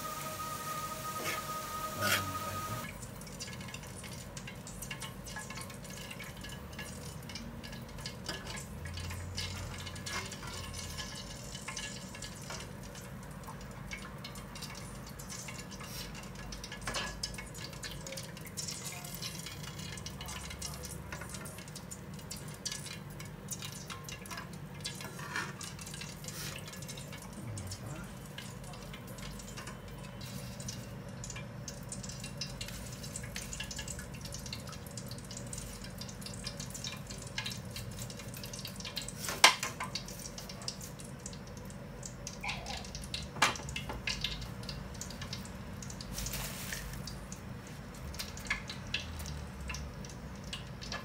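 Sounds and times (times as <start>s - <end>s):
food crackling in oil: 0.0s - 51.0s.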